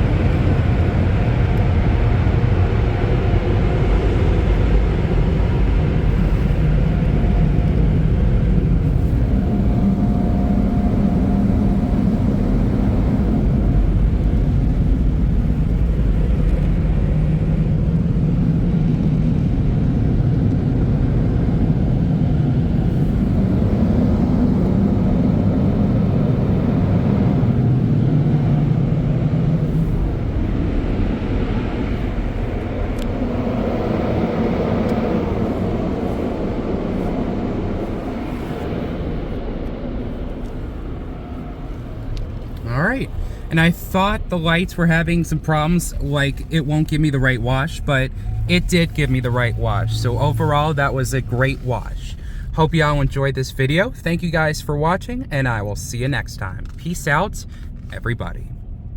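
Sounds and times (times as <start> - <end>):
car wash air dryers roaring: 0.0 - 58.0.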